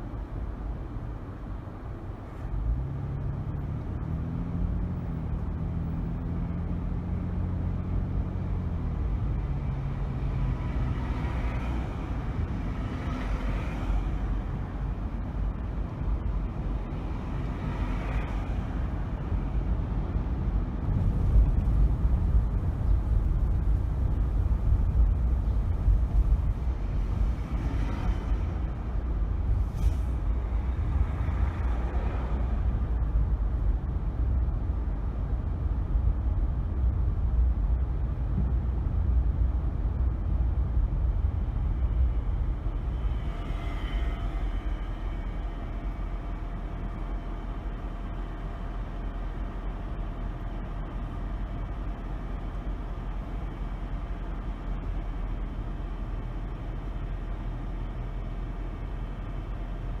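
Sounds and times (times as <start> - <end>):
car road and engine noise: 0.0 - 60.0.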